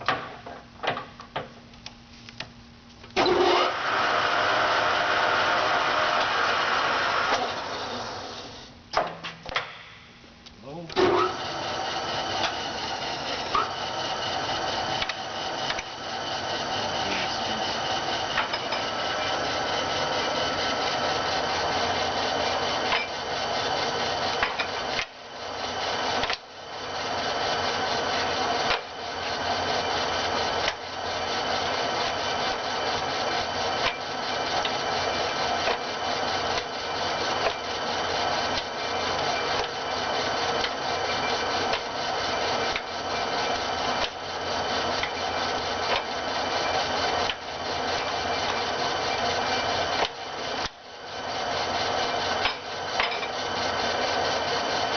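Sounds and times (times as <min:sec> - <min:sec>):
lathe mechanical whine: 0:03.2 - 0:08.8, 0:10.8 - 0:54.9.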